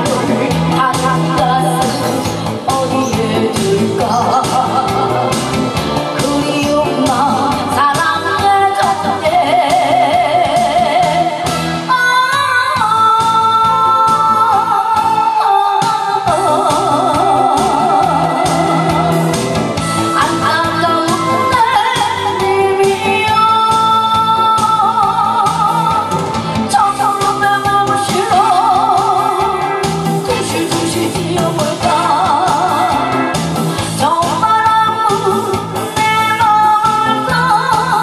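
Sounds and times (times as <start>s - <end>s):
amplified backing music: 0.0s - 38.0s
woman singing into a microphone: 0.0s - 38.0s.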